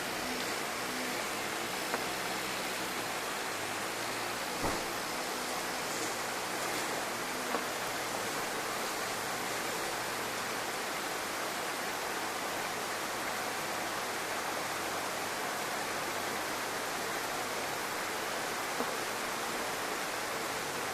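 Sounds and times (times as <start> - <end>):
heavy rain hissing: 0.0 - 20.9.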